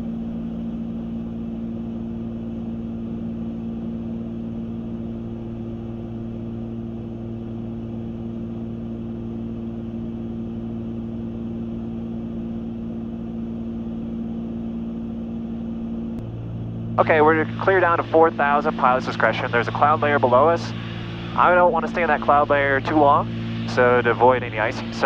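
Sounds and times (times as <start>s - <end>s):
airplane engines droning: 0.0s - 25.0s.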